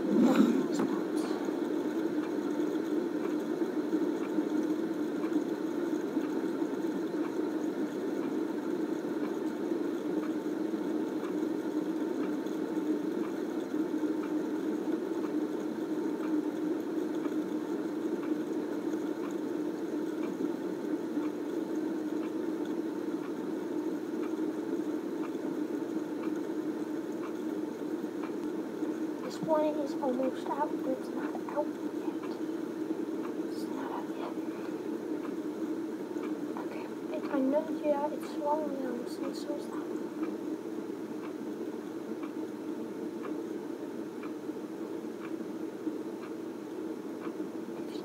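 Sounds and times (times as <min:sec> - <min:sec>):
fidget spinners whirring: 0:00.0 - 0:43.6.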